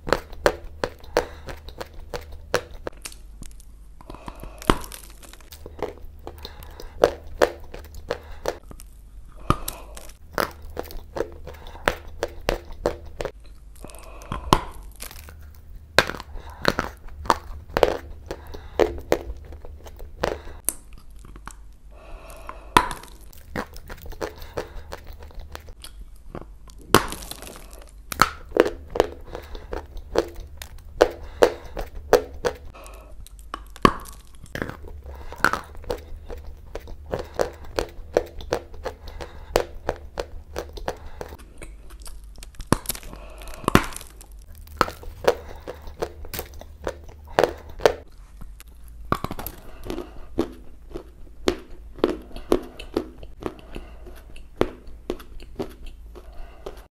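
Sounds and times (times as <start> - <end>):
clay being crunched and chewed: 0.0 - 56.9.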